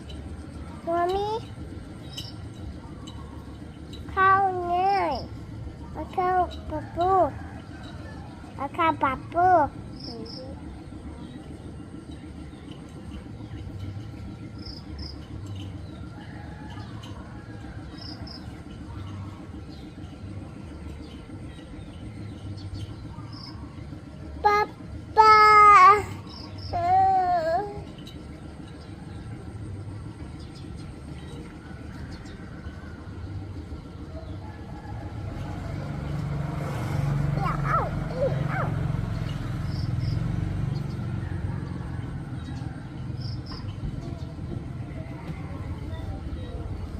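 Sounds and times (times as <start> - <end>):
engine humming: 0.0 - 46.9
low outdoor rumble: 0.0 - 46.9.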